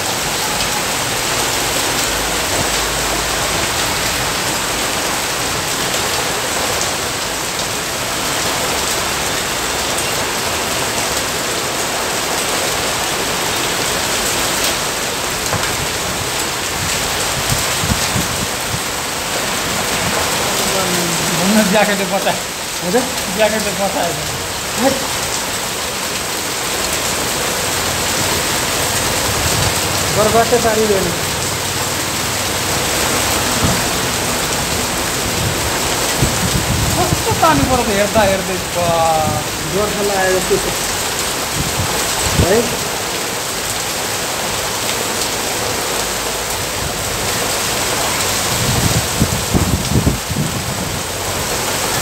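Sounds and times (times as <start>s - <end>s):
heavy rain on pavement: 0.0s - 52.0s.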